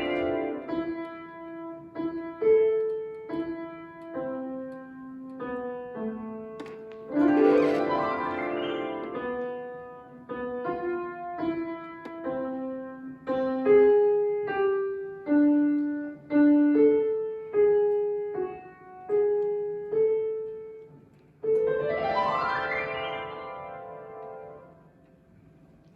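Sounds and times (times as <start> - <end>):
solo piano melody: 0.0 - 25.0.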